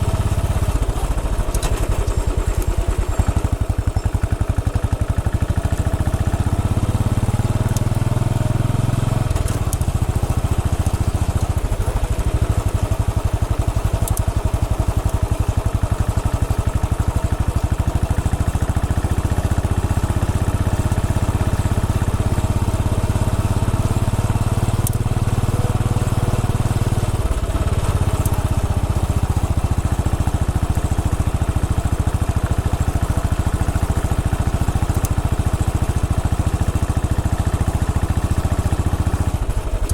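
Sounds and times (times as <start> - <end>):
single-cylinder motorcycle engine running: 0.0 - 39.9.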